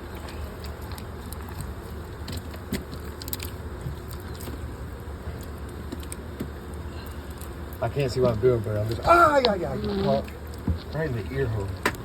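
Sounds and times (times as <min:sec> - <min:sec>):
honeycomb crackling: 0:00.0 - 0:12.0.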